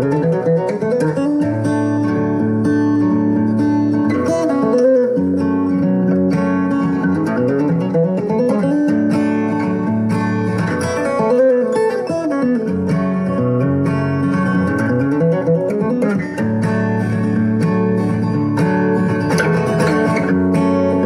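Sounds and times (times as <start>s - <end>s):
acoustic guitar instrumental: 0.0s - 21.0s.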